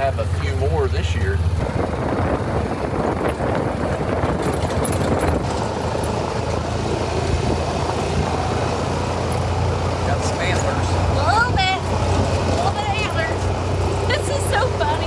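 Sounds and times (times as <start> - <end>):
road and wind noise: 0.0 - 15.0
vehicle engine rumble: 0.0 - 15.0.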